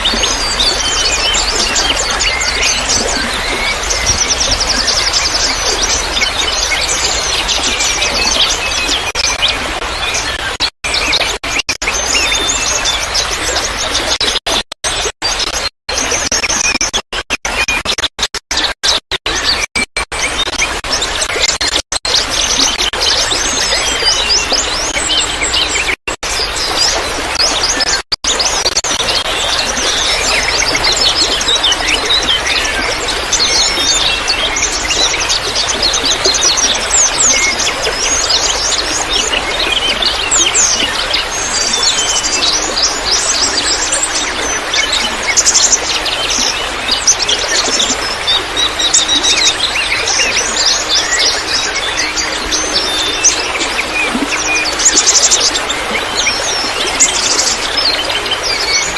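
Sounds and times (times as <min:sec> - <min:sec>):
water trickling: 0:00.0 - 0:11.1, 0:22.1 - 0:58.9
songbirds chirping: 0:00.0 - 0:14.1, 0:22.1 - 0:58.9.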